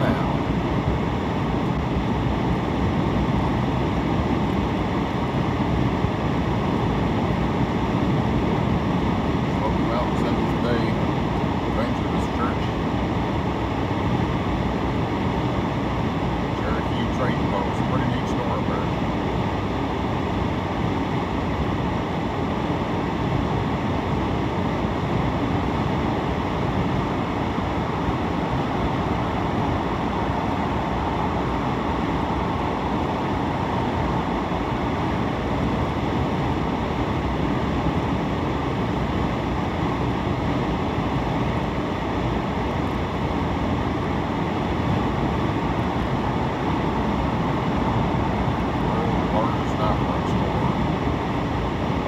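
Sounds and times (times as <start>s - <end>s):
road and tyre noise: 0.0s - 52.0s.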